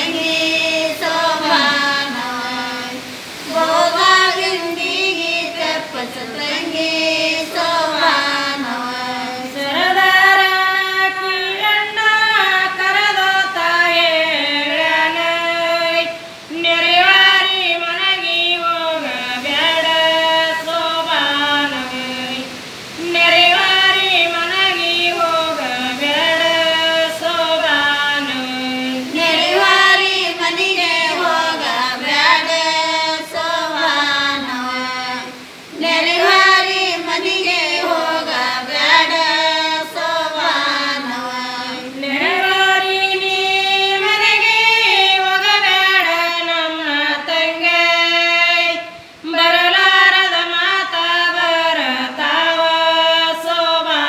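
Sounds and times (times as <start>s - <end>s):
women singing unaccompanied: 0.0s - 54.0s.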